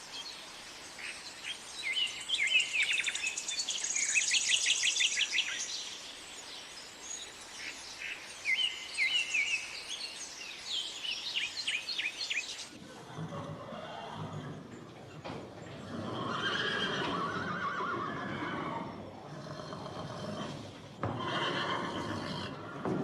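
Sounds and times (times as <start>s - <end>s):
songbirds chirping and trilling: 0.0s - 23.0s.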